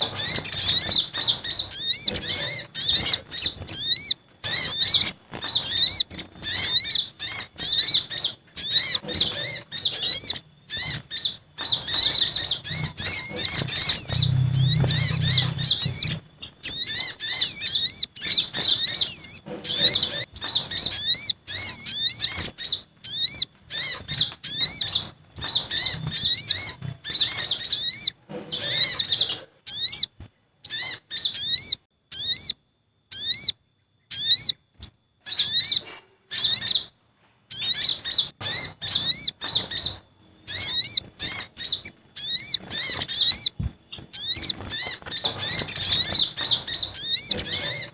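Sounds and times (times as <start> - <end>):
sunbirds chirping: 0.0 - 47.9.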